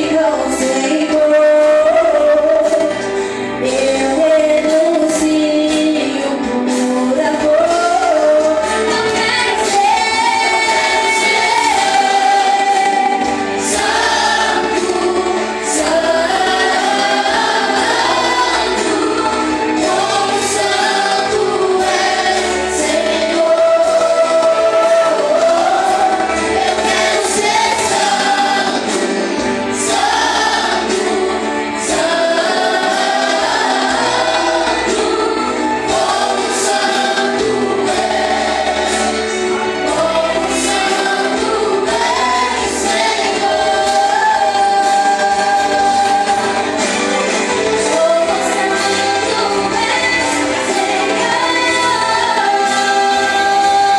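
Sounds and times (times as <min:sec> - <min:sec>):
group singing worship song: 0:00.0 - 0:53.9
instrumental accompaniment: 0:00.0 - 0:53.9.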